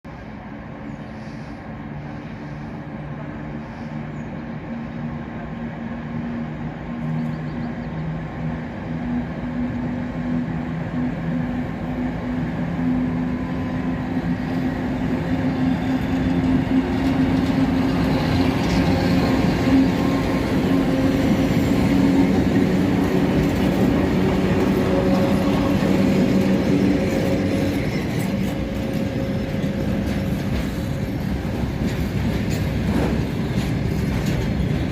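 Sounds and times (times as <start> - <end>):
diesel locomotive engine: 0.0 - 34.9.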